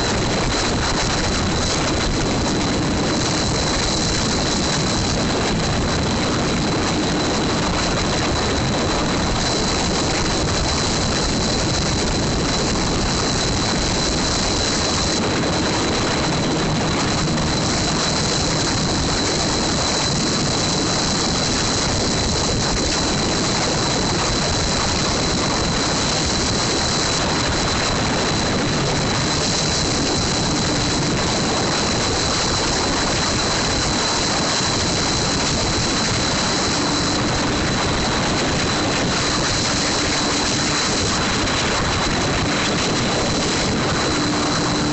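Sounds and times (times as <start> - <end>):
wind noise on microphone: 0.0 - 44.9.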